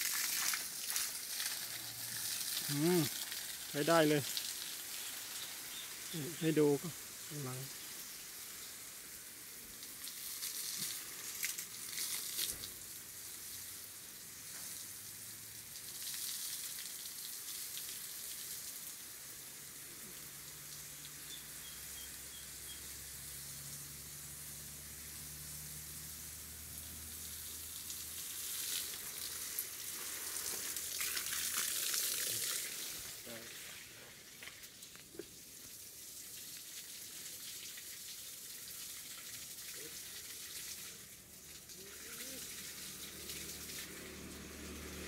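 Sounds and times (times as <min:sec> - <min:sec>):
garden hose water spattering: 0:00.0 - 0:45.0.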